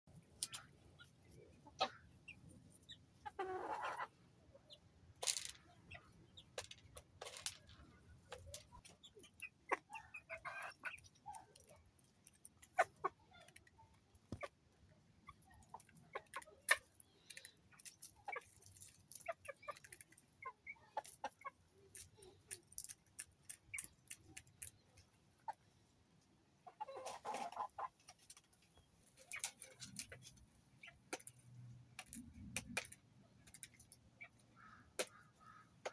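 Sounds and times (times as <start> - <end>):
chickens clucking: 0.2 - 4.9, 5.6 - 25.8, 26.6 - 35.9
beaks pecking at grain: 5.2 - 25.6, 26.7 - 35.9.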